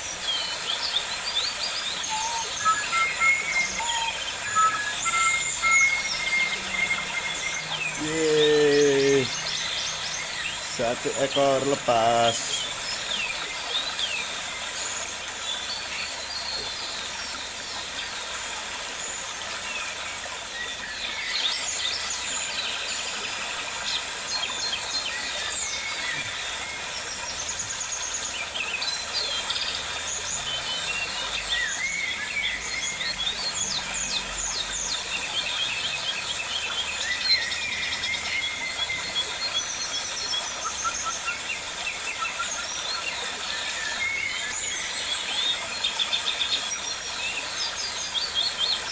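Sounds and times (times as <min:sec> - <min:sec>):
birds chirping: 0:00.0 - 0:18.2, 0:18.9 - 0:48.9.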